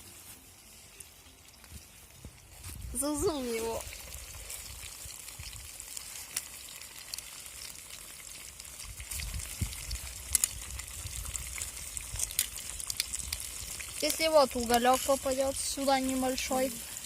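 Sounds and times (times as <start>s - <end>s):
potatoes sizzling in fat: 0.0s - 17.0s.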